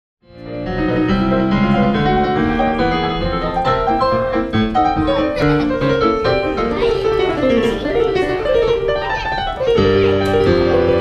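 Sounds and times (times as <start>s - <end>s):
fast piano piece: 0.2s - 11.0s.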